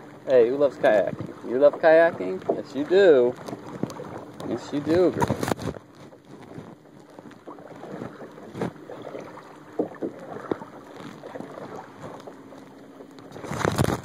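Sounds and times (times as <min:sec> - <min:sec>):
paddle splashing water: 0:00.0 - 0:14.0
paddle knocks: 0:00.8 - 0:12.4
wind on microphone: 0:00.8 - 0:12.4, 0:13.2 - 0:14.0.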